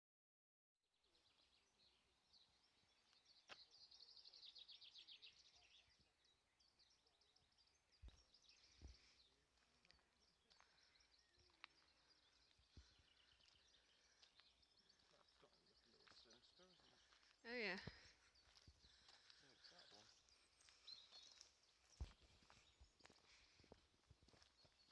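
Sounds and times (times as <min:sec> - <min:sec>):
songbird singing: 0:00.9 - 0:24.9.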